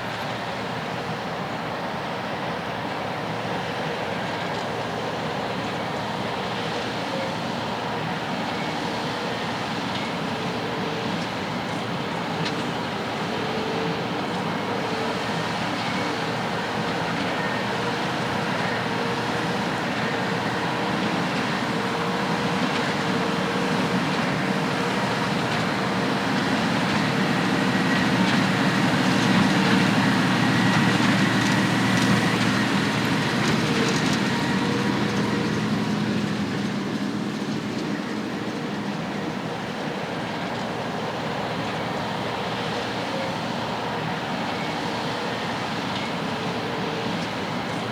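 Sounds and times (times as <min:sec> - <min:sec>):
heavy farm machinery running: 0:00.0 - 0:47.9.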